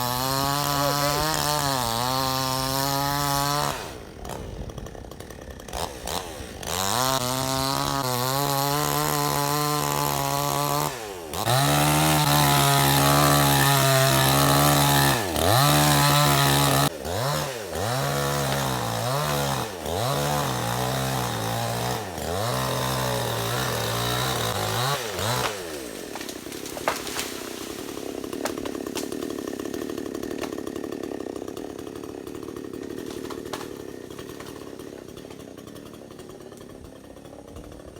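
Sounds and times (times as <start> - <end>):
chainsaw cutting into tree: 0.0 - 37.9.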